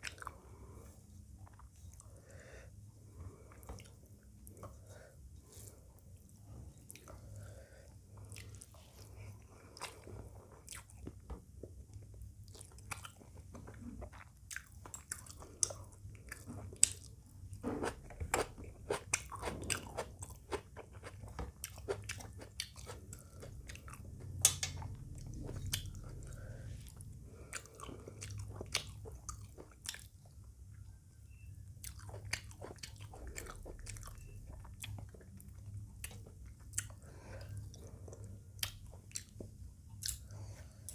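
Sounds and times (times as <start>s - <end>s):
person chewing food: 0.0s - 2.5s, 3.1s - 40.9s.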